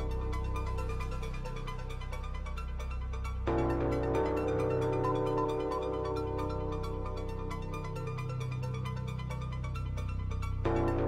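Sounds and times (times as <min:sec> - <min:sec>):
synthesizer chords: 0:00.0 - 0:11.0.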